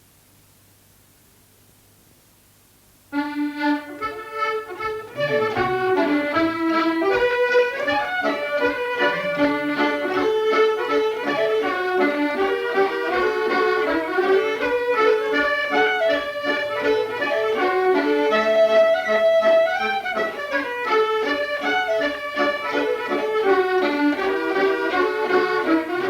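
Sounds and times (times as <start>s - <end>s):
accordion playing: 3.1s - 26.0s.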